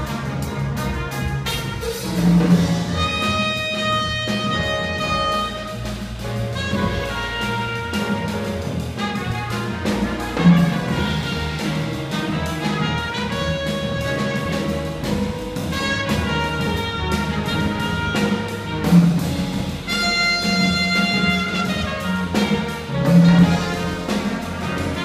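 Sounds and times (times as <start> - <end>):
trumpet long notes: 0.0 - 2.2, 3.0 - 6.0, 6.6 - 14.7, 15.7 - 25.0
drums: 0.0 - 25.0
electric bass: 0.0 - 25.0
piano: 0.0 - 25.0.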